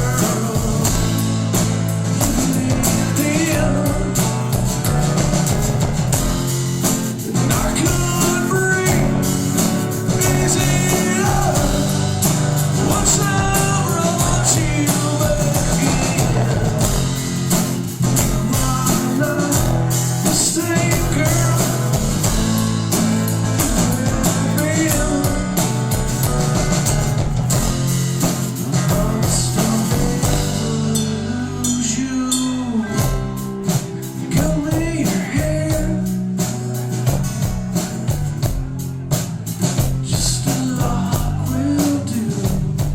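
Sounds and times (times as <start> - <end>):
person singing: 0.0 - 5.8, 6.8 - 36.9, 39.7 - 42.9
distorted electric guitars: 0.0 - 42.9
drum kit: 0.0 - 42.9.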